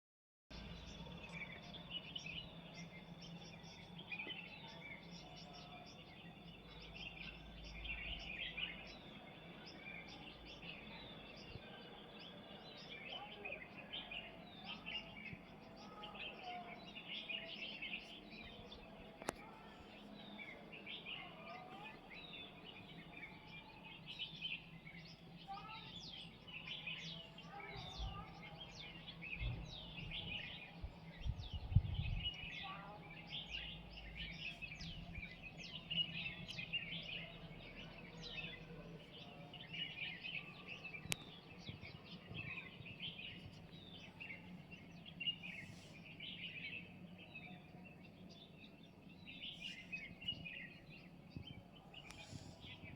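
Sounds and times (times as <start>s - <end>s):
small birds chirping: 0.5s - 52.9s.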